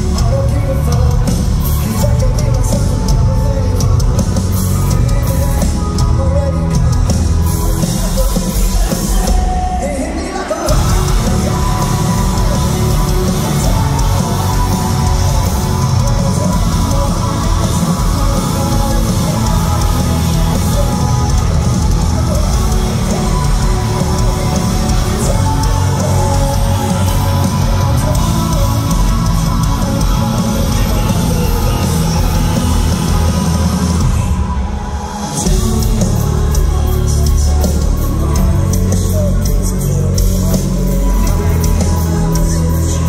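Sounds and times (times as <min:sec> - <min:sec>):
bass guitar: 0:00.0 - 0:43.0
distorted electric guitars: 0:00.0 - 0:43.0
pounding drums: 0:00.0 - 0:43.0.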